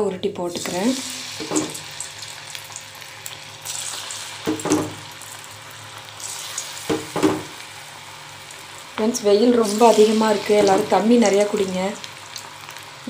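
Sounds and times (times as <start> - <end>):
batter sizzling in hot oil: 0.5 - 13.0.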